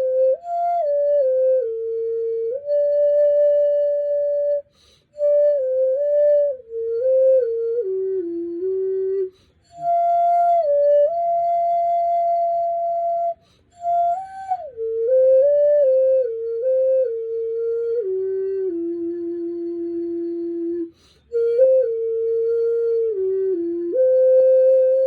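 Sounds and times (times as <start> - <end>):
vessel flute melody: 0.0 - 25.0.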